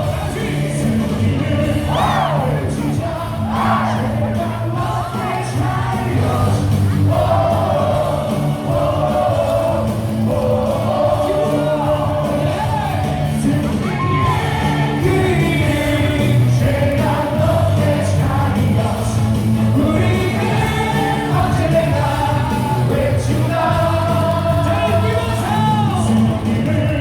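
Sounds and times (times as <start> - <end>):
crowd singing a cheer song: 0.0 - 27.0
loud music from speakers: 0.0 - 27.0.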